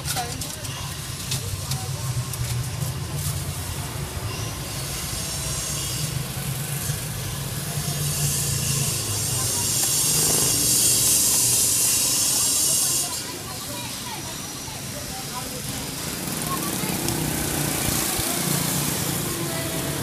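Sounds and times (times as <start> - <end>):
broad traffic hiss: 1.0 - 20.0.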